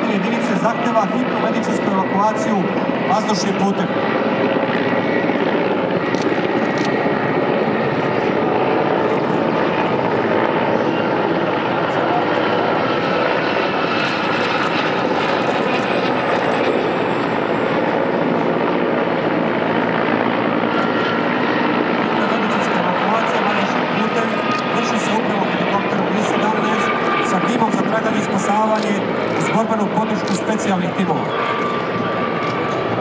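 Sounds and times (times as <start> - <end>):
helicopter flying past: 0.0 - 33.0.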